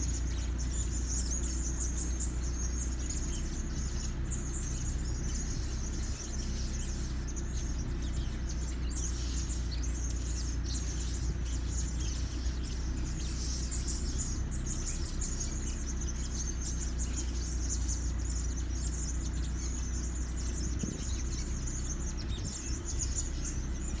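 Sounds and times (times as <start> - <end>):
parrots chirping: 0.0 - 24.0
steady low hum: 0.0 - 24.0.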